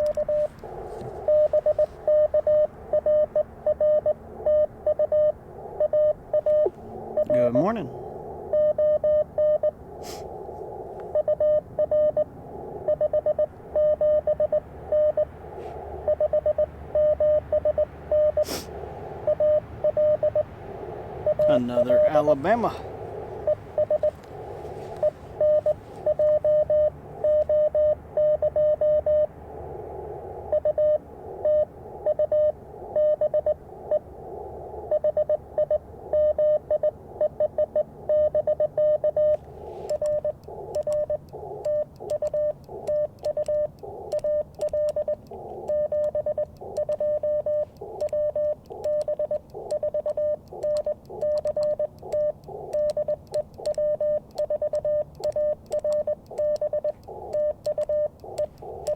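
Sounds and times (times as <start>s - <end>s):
morse code tones: 0.0s - 29.3s, 30.4s - 58.9s
radio band noise: 0.0s - 58.9s.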